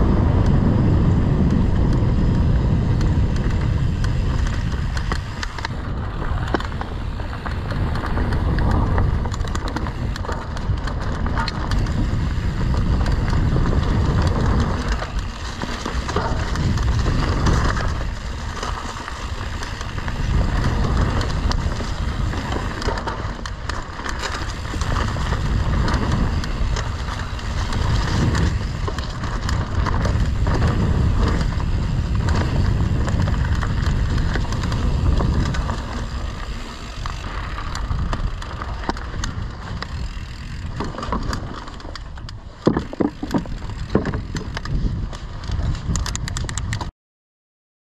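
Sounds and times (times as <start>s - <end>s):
bike knocks and rattles: 0.0s - 46.9s
bike tyre and frame noise: 0.0s - 46.9s
wind on microphone: 0.0s - 46.9s.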